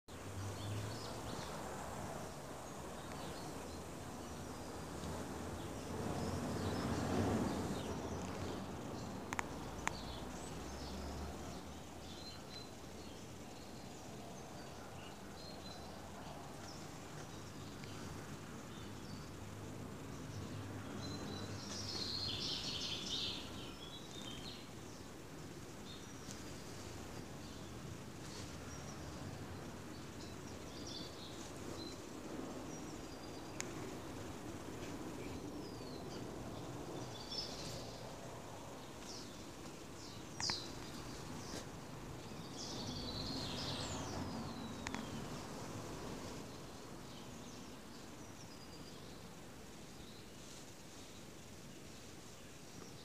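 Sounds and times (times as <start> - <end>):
low outdoor background hum: 0.1 - 53.0
birds chirping and twittering: 2.6 - 53.0.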